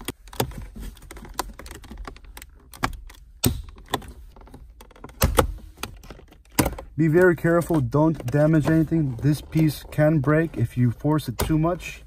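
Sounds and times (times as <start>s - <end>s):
plastic trim clicking and creaking: 0.0s - 11.8s.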